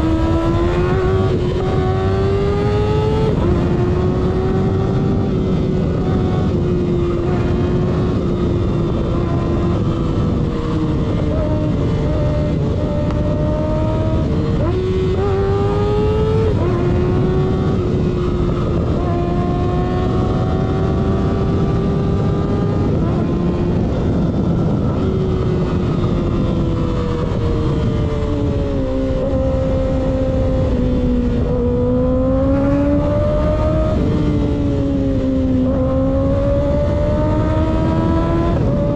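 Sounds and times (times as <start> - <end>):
motorcycle engine revving: 0.0 - 38.9
wind and road noise: 0.0 - 38.9.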